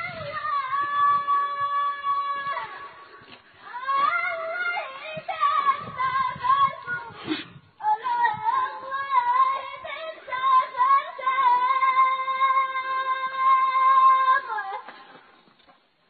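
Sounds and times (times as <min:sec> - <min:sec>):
high voice singing unaccompanied: 0:00.0 - 0:07.2, 0:07.8 - 0:14.9.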